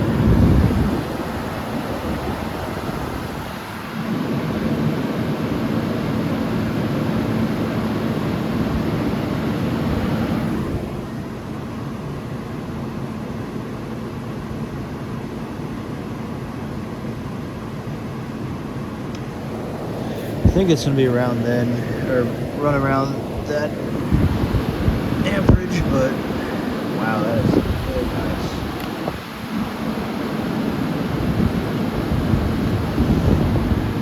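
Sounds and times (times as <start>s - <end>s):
window air conditioner running: 0.0s - 34.0s.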